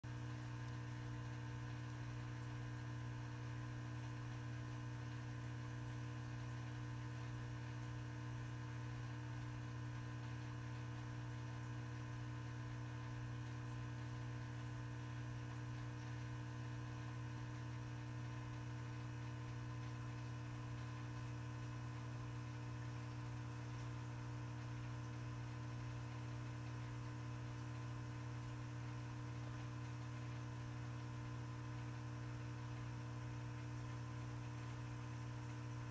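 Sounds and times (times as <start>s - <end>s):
low electrical hum: 0.1s - 35.9s.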